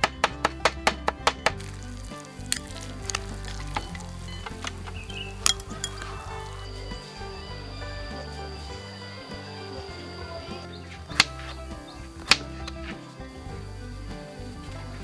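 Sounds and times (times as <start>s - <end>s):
utensil clinking: 0.0s - 15.0s
food sizzling in a pan: 1.5s - 15.0s.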